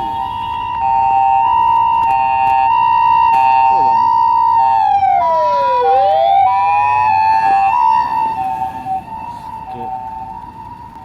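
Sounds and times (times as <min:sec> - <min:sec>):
two-tone siren: 0:00.0 - 0:11.0.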